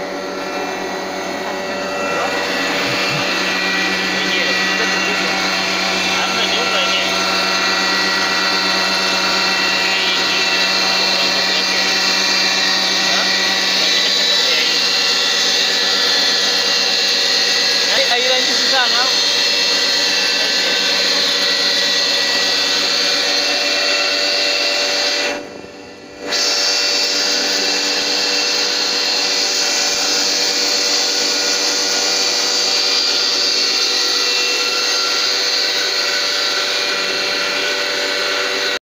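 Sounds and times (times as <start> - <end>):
grain mill whining and humming: 0.0 - 38.8.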